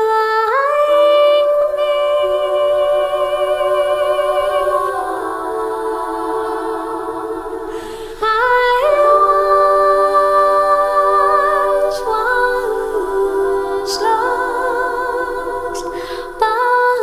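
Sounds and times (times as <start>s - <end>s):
held wordless vocal notes: 0.0s - 17.0s.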